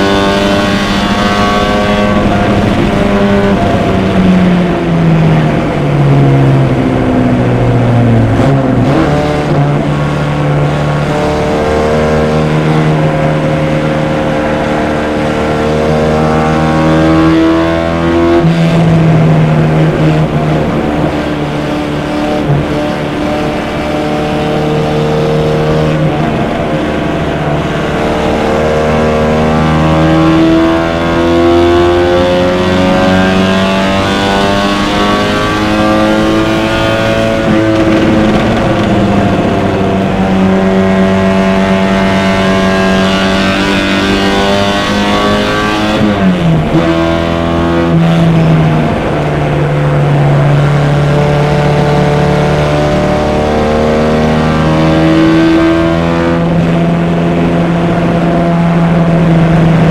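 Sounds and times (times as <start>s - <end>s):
race car engine at high revs: 0.0s - 59.9s
wind and road noise: 0.0s - 59.9s.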